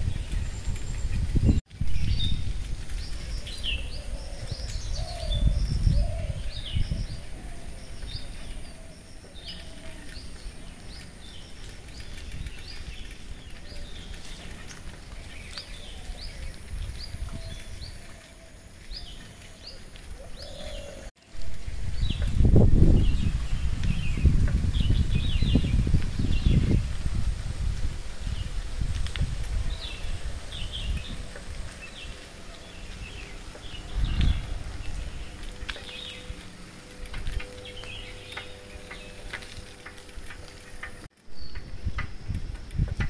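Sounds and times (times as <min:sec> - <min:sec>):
lower wavering bird calls: 0:00.0 - 0:22.3, 0:29.4 - 0:42.1
birds chirping: 0:00.0 - 0:27.0, 0:27.9 - 0:43.0
wind rumbling on microphone: 0:00.0 - 0:43.0.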